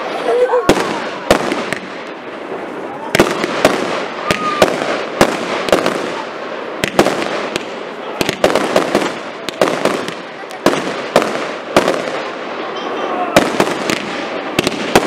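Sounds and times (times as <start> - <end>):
fireworks bangs: 0.0 - 15.0
fireworks crackling hiss: 0.0 - 15.0.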